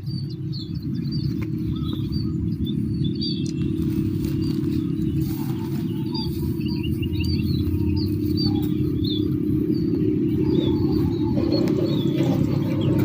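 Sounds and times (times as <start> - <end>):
birds chirping: 0.0 - 13.0
low rumble: 0.0 - 13.0.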